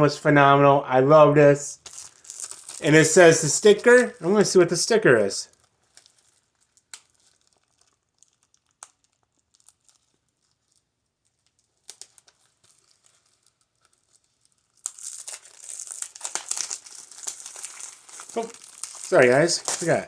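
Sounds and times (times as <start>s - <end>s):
packaging rustling and clicks: 1.8s - 4.6s, 5.5s - 20.0s
packaging crinkling and tearing: 1.8s - 20.0s.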